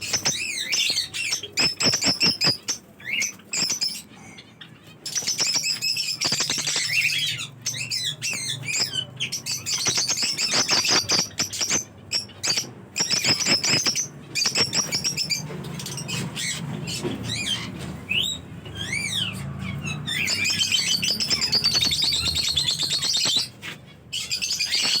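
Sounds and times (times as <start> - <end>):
parrots chattering and squawking: 0.0 - 25.0.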